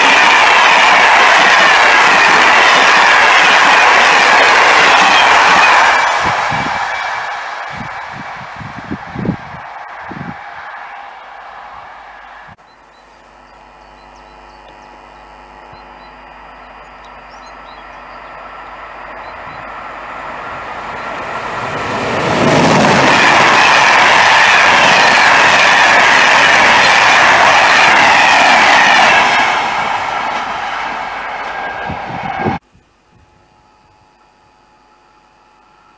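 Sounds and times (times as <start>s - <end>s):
train passing: 0.0s - 13.0s, 15.1s - 32.6s
wheel and rail noise: 0.0s - 32.6s.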